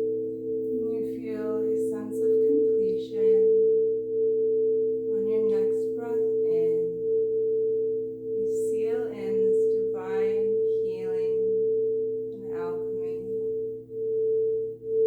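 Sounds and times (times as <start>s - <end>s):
pure ringing tone: 0.0s - 15.0s.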